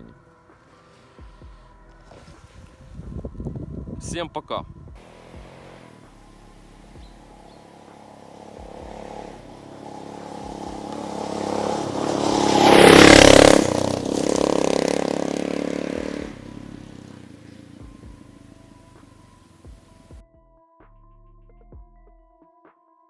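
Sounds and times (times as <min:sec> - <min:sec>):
motorcycle engine passing by: 0:00.0 - 0:03.9, 0:04.8 - 0:20.2.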